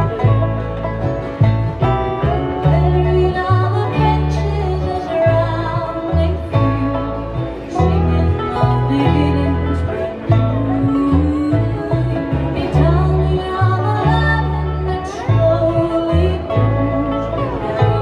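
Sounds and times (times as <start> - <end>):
bass line: 0.0 - 18.0
string band playing bluegrass: 0.0 - 18.0.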